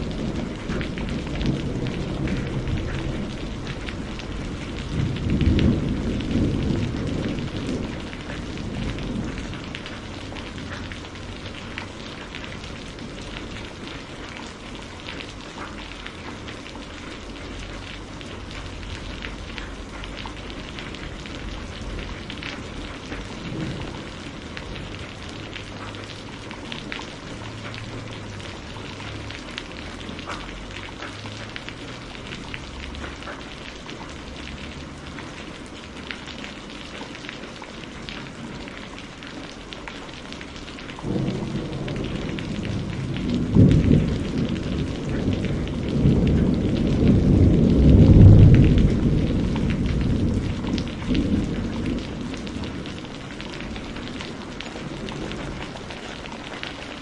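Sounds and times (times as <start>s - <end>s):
rolling thunder rumble: 0.0s - 39.6s, 40.6s - 57.0s
steady rain: 0.0s - 57.0s.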